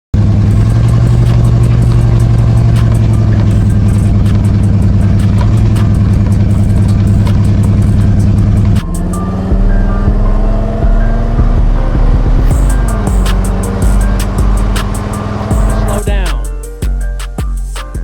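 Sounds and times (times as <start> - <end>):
engine running at high revs: 0.2 - 16.3.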